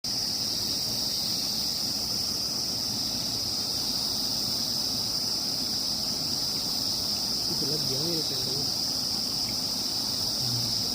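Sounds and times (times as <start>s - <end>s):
insects droning: 0.0s - 10.9s.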